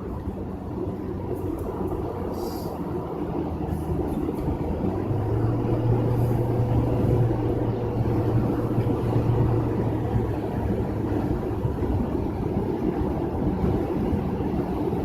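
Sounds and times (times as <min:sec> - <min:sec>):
deep engine hum: 0:00.0 - 0:15.0
vehicle cabin road rumble: 0:00.0 - 0:15.0.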